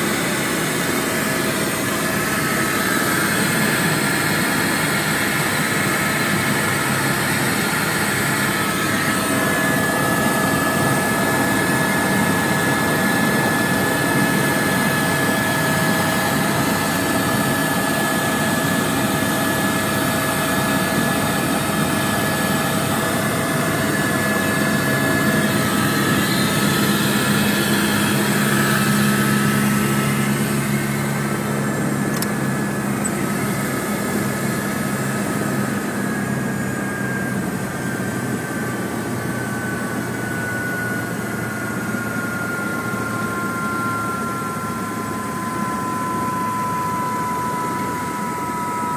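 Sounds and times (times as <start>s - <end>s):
constant whine: 0.0s - 48.9s
helicopter engine and rotor drone: 0.0s - 48.9s.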